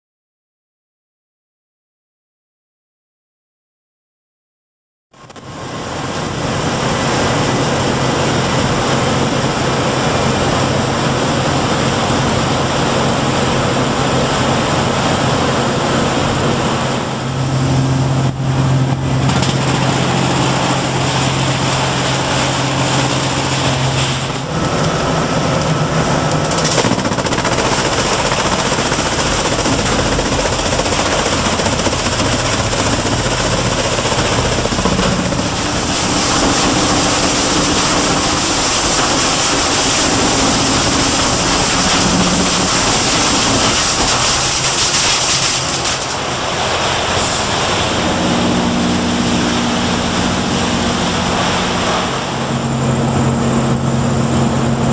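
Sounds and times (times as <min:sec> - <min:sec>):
loud machine noise with low hum: 0:05.2 - 0:54.9.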